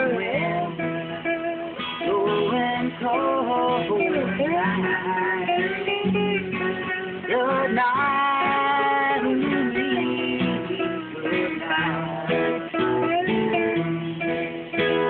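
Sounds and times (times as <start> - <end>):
guitar plucked and strummed: 0.0 - 15.0.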